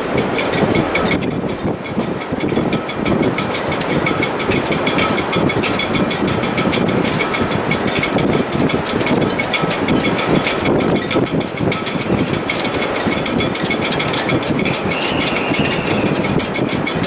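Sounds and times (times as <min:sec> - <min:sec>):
faint wind whistle: 0:00.0 - 0:17.0
wind rushing in rigging: 0:00.0 - 0:17.0
fast regular ticking: 0:00.2 - 0:17.0.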